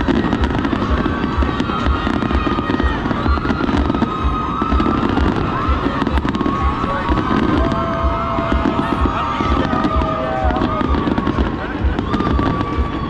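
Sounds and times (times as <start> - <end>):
fireworks booming: 0.0 - 13.0
fireworks crackling: 0.0 - 13.0
fireworks whistling: 0.0 - 13.0.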